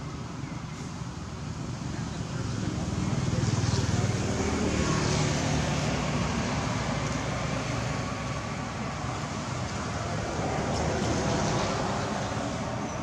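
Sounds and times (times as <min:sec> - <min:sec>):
outdoor background rumble and hiss: 0:00.0 - 0:13.0.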